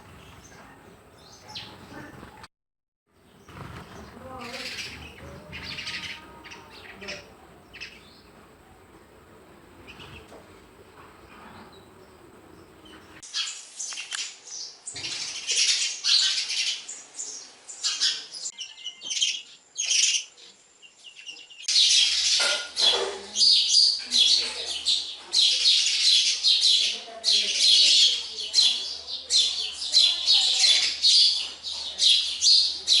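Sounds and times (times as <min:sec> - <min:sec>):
sparrows chirping: 0:00.0 - 0:02.5, 0:03.2 - 0:33.0.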